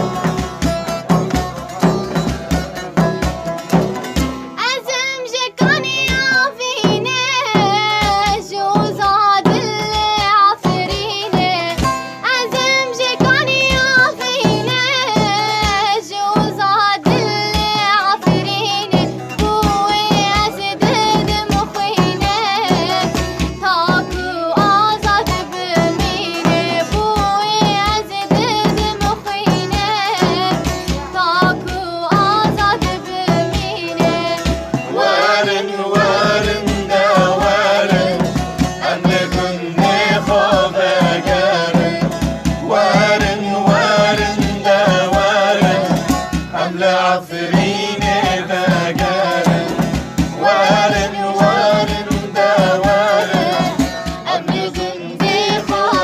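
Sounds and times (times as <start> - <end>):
drum beat: 0.0 - 4.6, 5.6 - 56.0
instrumental backing: 0.0 - 56.0
girl singing sad song: 4.6 - 49.8, 50.4 - 56.0.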